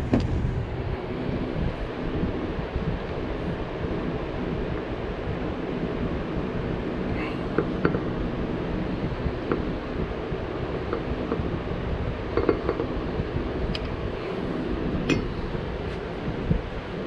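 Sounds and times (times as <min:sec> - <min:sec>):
steady low rumbling: 0:00.0 - 0:17.0.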